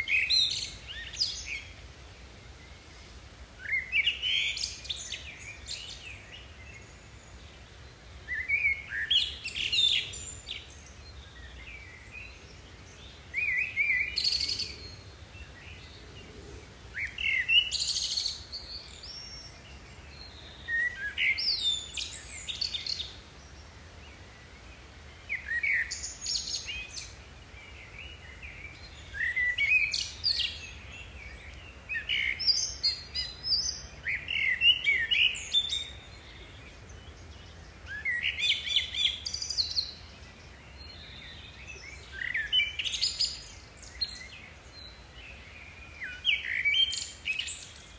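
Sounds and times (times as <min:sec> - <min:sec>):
songbird chirping: 0:00.0 - 0:47.9.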